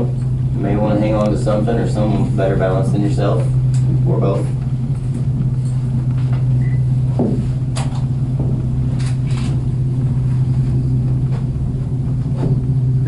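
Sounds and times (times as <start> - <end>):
cable car hum and rumble: 0.0 - 13.0.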